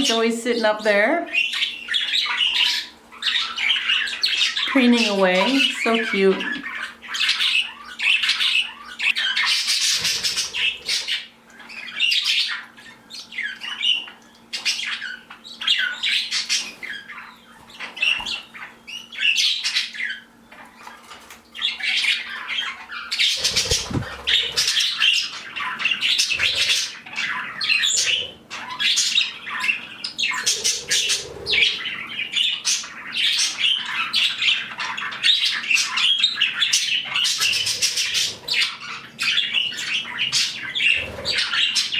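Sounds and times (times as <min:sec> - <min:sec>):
parrots chattering and squawking: 0:00.0 - 0:41.9.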